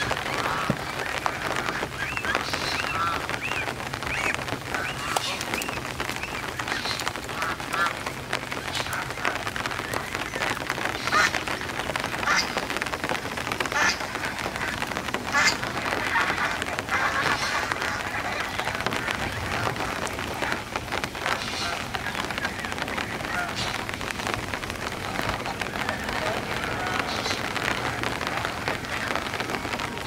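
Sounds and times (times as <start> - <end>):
geese calling: 0.0 - 30.0.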